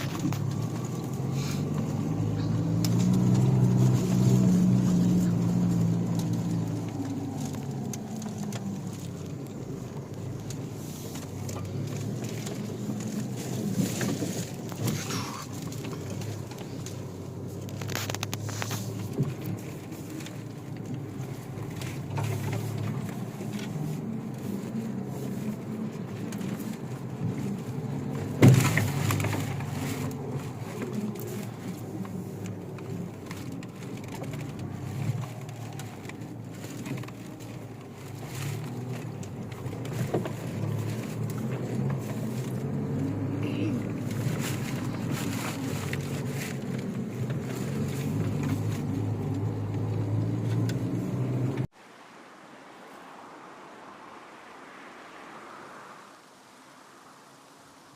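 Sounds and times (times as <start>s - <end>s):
car engine running: 0.0s - 51.7s.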